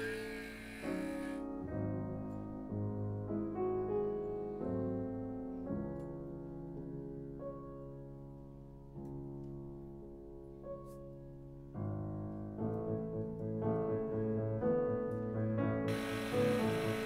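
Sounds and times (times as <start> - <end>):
slow solo piano chords: 0.0 - 17.0.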